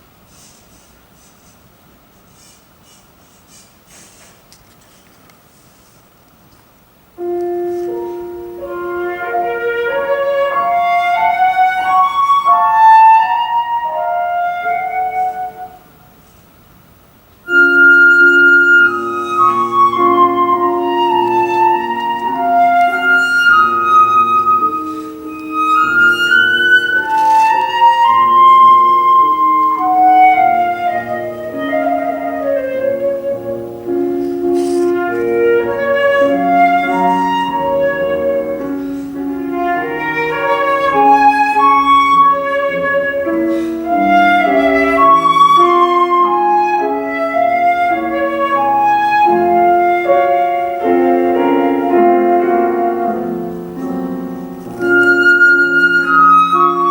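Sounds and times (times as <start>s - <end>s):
piano accompaniment: 7.1s - 16.2s, 17.4s - 56.9s
solo flute melody: 7.2s - 16.1s, 17.4s - 56.9s.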